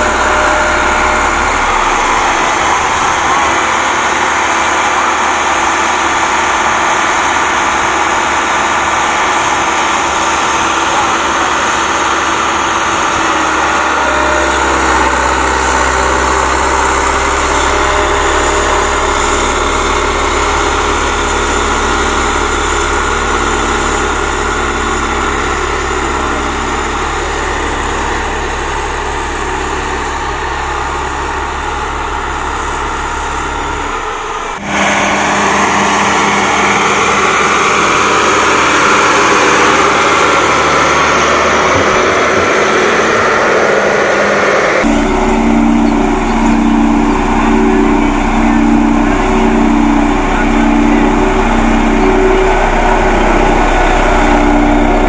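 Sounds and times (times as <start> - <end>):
deep steady hum: 0.0 - 55.0
diesel engine running: 0.0 - 55.0.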